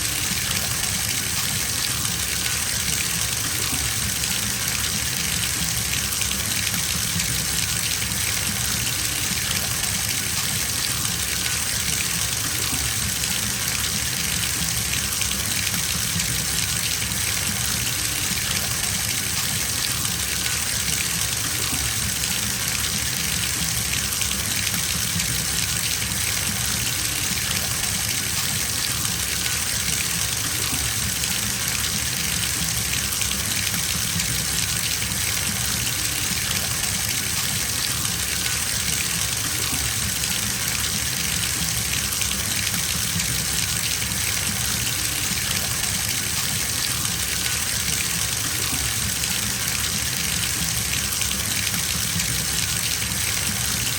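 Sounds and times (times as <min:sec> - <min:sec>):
water running into bathtub: 0:00.0 - 0:53.9.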